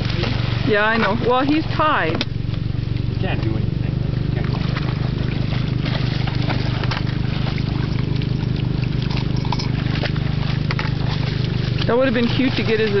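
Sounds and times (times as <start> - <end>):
motor droning: 0.0 - 13.0
water splashing: 0.0 - 13.0.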